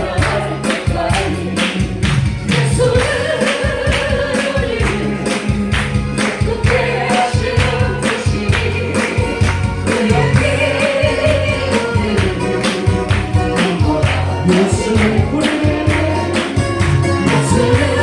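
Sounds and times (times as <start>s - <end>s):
group singing praise song: 0.0s - 18.0s
live band with bass and drums: 0.0s - 18.0s.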